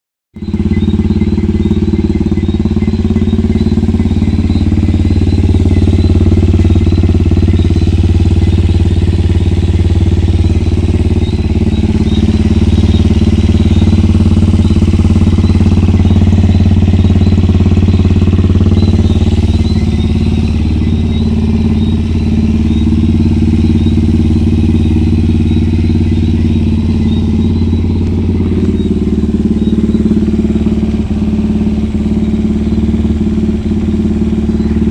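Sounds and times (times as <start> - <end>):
motorcycle engine idling: 0.3 - 34.9.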